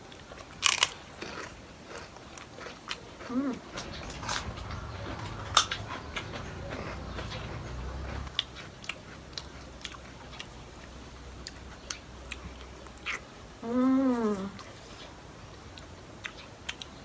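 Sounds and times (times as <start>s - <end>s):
chewing with wet clicks: 0.1s - 13.3s, 15.7s - 17.0s.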